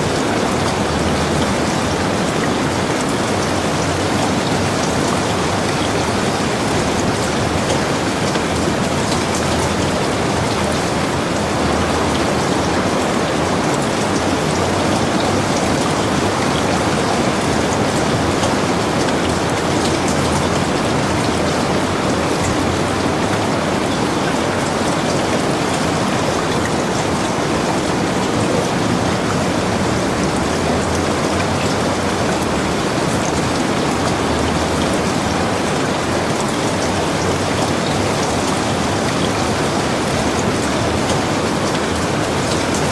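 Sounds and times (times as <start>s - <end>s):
heavy rain: 0.0s - 42.9s
raindrops ticking on a surface: 0.0s - 42.9s.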